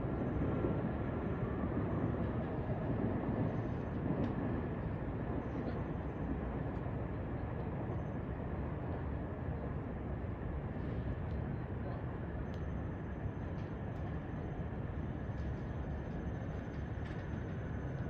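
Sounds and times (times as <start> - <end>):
distant trains rumbling: 0.0 - 18.0.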